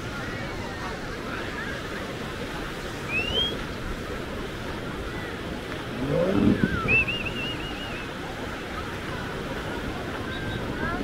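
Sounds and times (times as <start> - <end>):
waves washing onto sandy beach: 0.0 - 11.0.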